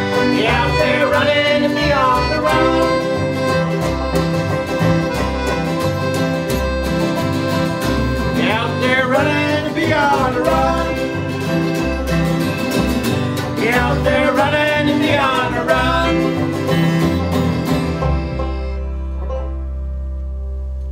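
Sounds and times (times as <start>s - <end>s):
steady beat: 0.0s - 18.5s
picked banjo: 0.0s - 20.9s
strummed guitar: 0.0s - 20.9s.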